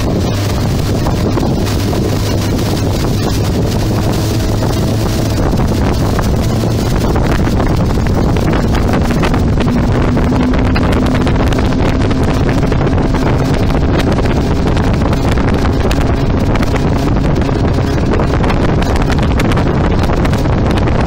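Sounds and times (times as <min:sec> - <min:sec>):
boat motor drone: 0:00.0 - 0:21.0
water rushing along hull: 0:00.0 - 0:21.0
wind noise on microphone: 0:00.0 - 0:21.0.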